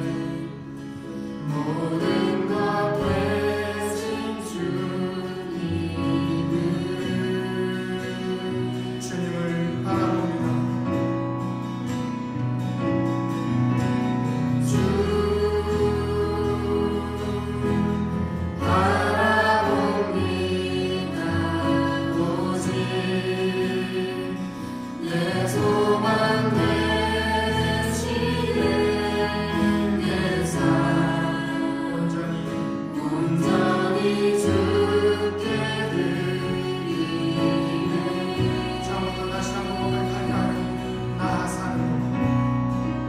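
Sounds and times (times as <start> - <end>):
band and singers performing worship song: 0.0 - 43.0.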